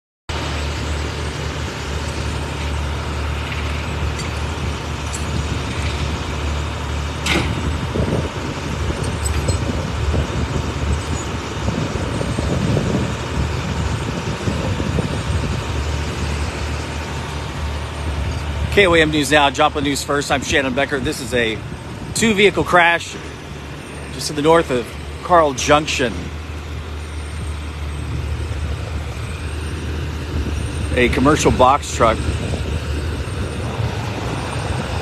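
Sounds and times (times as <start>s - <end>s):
truck engine idling: 0.3s - 35.0s.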